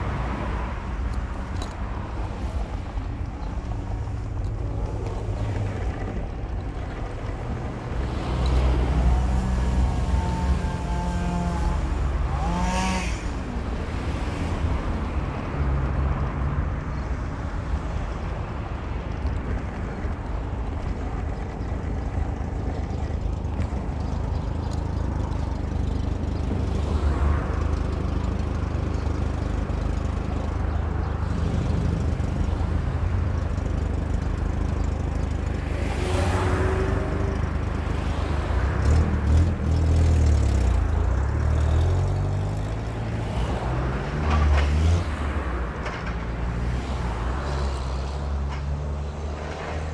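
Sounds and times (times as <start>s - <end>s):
car engine and road rumble: 0.0s - 49.9s
vehicles passing: 0.0s - 49.9s.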